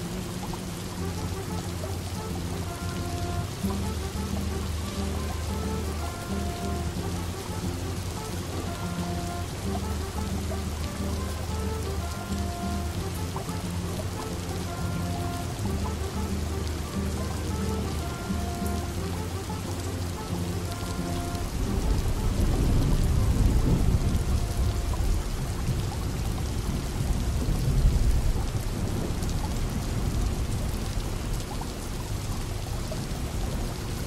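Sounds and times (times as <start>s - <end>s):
distant thunder rumble: 0.0s - 34.0s
rain pattering on windows: 0.0s - 34.0s.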